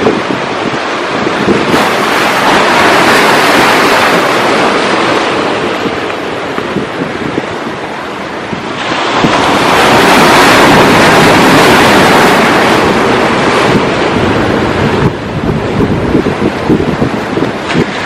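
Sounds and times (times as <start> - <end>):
ocean wave washing: 0.0 - 18.0
wind rumbling on microphone: 0.0 - 18.0.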